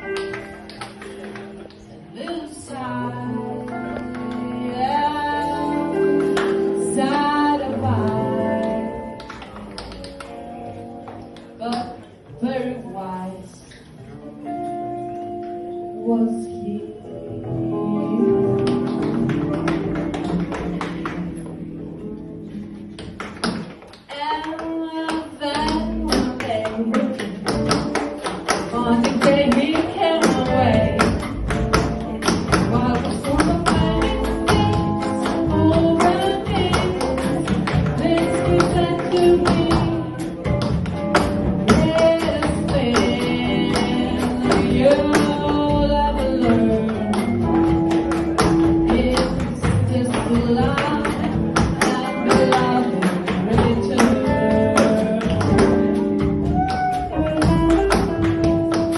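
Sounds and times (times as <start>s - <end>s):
jazz band playing: 2.6s - 11.6s, 14.3s - 23.2s, 25.6s - 58.9s.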